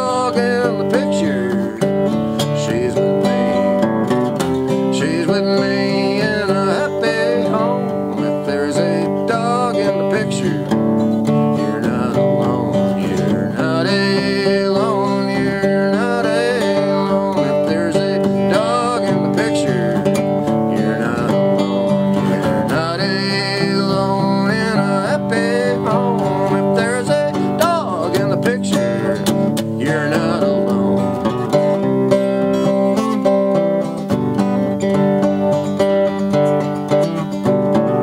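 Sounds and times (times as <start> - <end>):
acoustic guitar picked and strummed: 0.0 - 38.0
sliding lead melody: 0.0 - 38.0.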